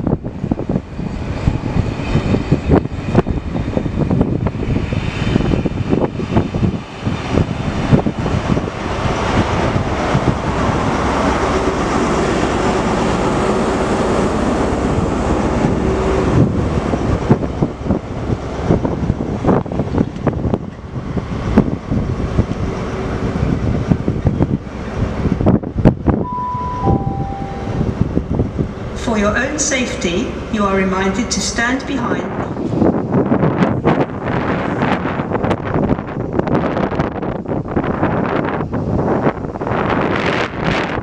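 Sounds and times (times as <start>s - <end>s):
diesel locomotive engine: 0.0s - 41.0s.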